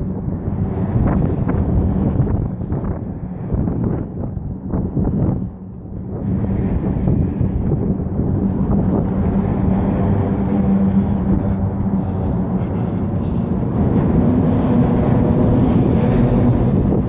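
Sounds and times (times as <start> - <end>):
car road and engine noise: 0.0 - 17.0
low hum: 0.0 - 17.0.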